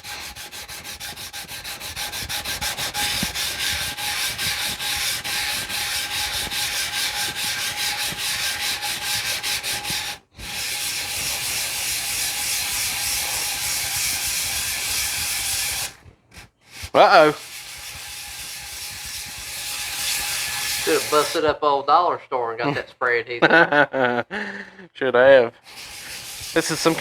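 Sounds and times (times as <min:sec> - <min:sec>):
wood sanding on sandpaper: 0:00.0 - 0:21.5, 0:25.6 - 0:27.0.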